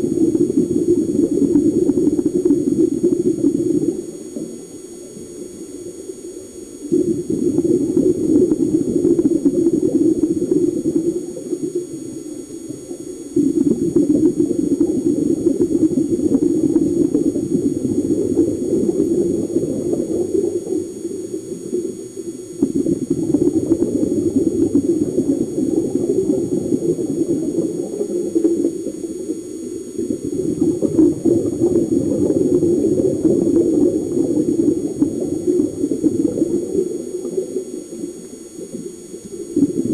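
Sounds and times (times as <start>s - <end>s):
low underwater rushing noise: 0.0s - 39.9s.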